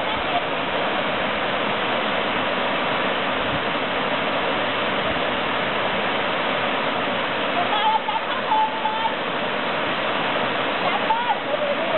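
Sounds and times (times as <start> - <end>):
waterfall pouring into pool: 0.0 - 11.9.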